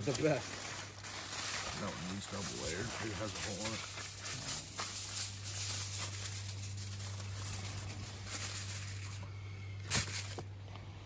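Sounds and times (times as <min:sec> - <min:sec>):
aluminium foil crinkling: 0:00.0 - 0:10.5
steady low hum: 0:00.0 - 0:11.0.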